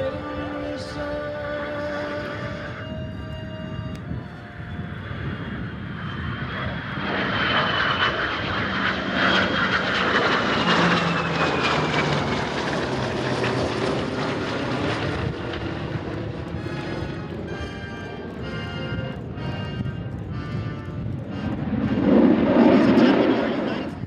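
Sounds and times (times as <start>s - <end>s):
high whine falling in pitch: 0.0s - 24.0s
jet aircraft fly-by: 0.0s - 24.0s.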